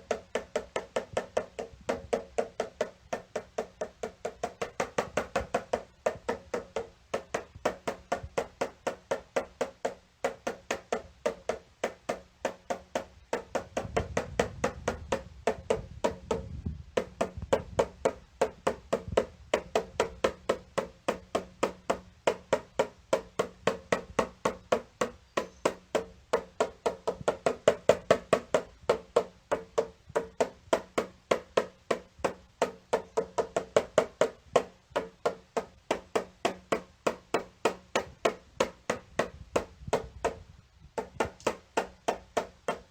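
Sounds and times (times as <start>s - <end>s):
small drum tapped: 0.0s - 42.9s.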